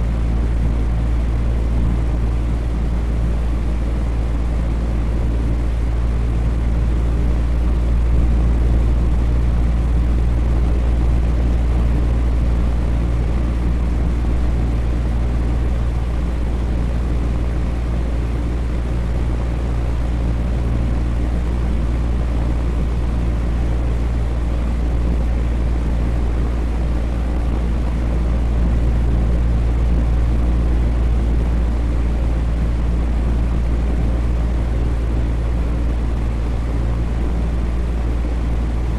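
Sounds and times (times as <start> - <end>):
electric fan running: 0.0 - 38.9.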